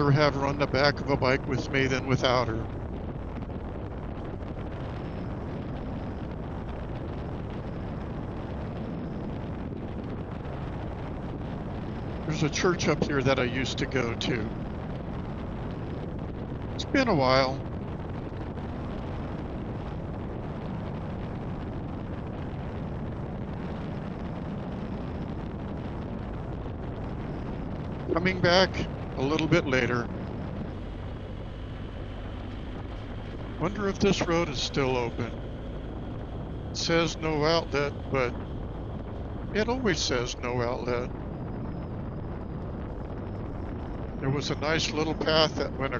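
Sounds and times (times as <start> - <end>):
wind rush: 0.0 - 45.9
motorcycle engine humming: 1.6 - 45.6.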